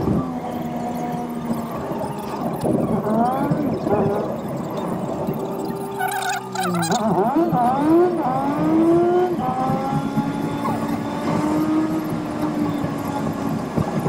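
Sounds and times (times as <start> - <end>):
small car engine accelerating: 0.0 - 14.0.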